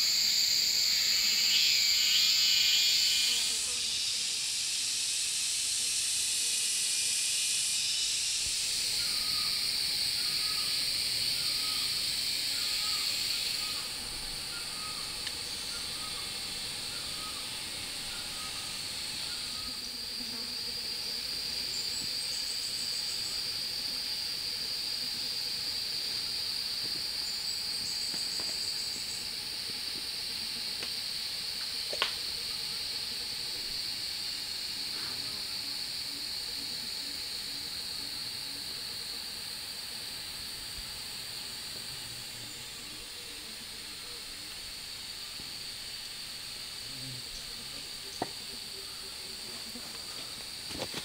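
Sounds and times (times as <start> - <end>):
insect chorus drone: 0.0 - 51.0.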